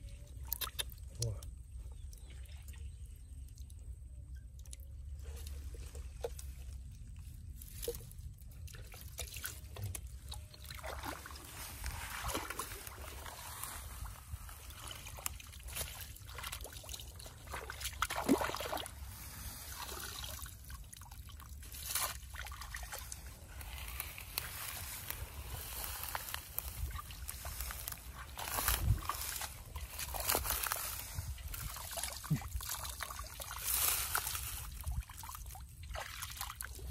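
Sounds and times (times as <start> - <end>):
water sloshing and trickling: 0.0 - 36.9
feet wading through water: 5.1 - 36.9.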